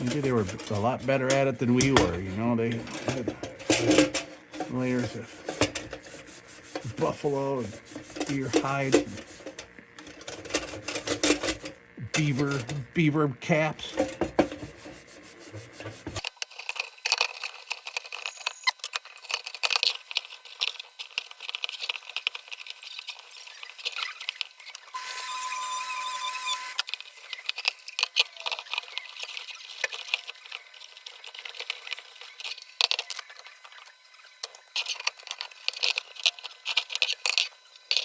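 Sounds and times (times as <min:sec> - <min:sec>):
steel wool scratching metal: 0:00.0 - 0:12.9, 0:13.6 - 0:16.3, 0:19.7 - 0:38.0.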